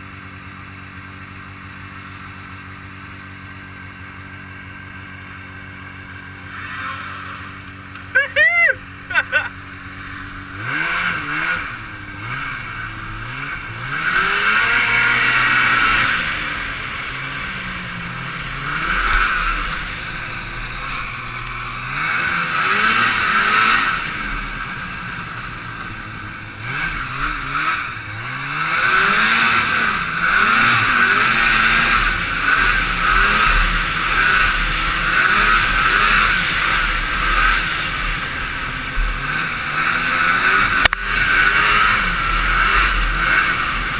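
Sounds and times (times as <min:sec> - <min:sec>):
snowmobile engine revving: 0:00.0 - 0:43.9
track noise: 0:05.8 - 0:43.9.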